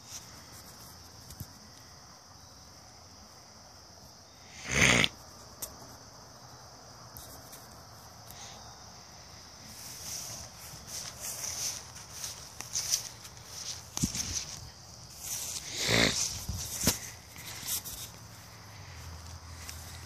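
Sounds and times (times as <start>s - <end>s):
crickets and insects chirring: 0.0s - 20.0s.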